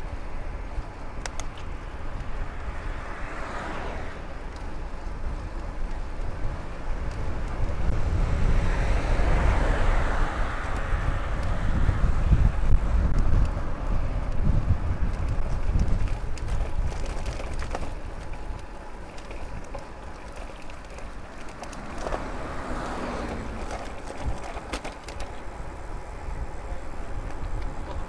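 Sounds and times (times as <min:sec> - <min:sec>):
road noise: 0:00.0 - 0:28.0
wind rumbling on microphone: 0:00.0 - 0:28.0.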